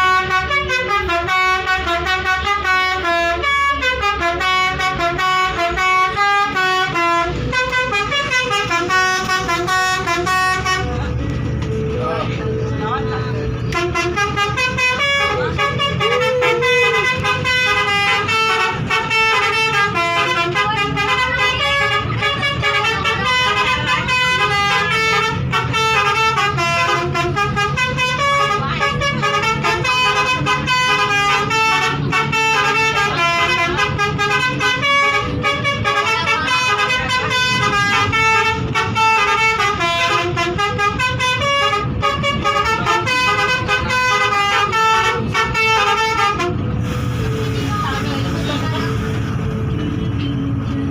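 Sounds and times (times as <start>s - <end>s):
musical bus horn playing a tune: 0.0s - 50.9s.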